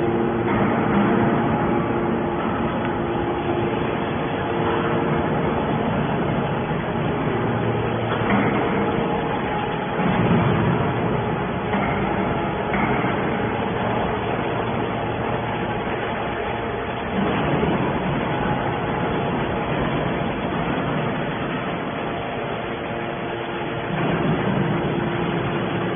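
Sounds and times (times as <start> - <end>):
hydraulic baler running: 0.0 - 25.9.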